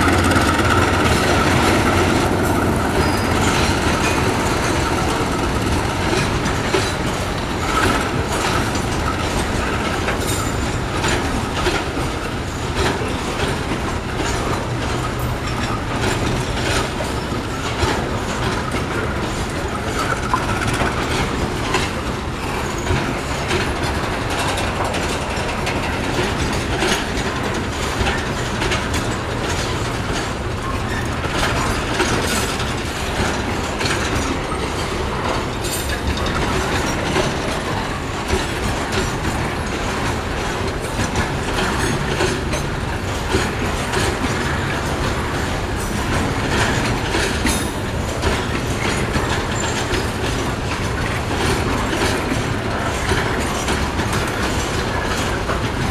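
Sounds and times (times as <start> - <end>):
diesel locomotive engine: 0.0 - 55.9
train wheels clacking on rail joints: 0.0 - 55.9.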